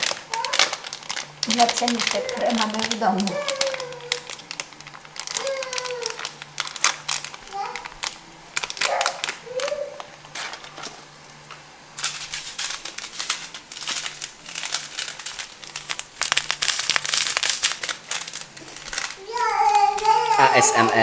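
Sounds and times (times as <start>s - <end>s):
plastic sachet crinkling: 0.0s - 21.0s.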